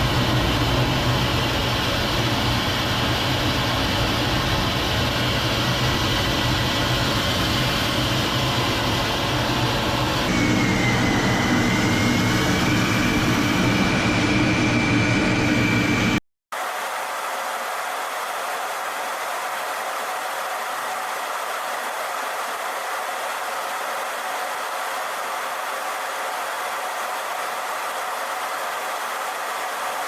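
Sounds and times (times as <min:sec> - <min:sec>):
jet engine running with turbine whine: 0:00.0 - 0:30.0.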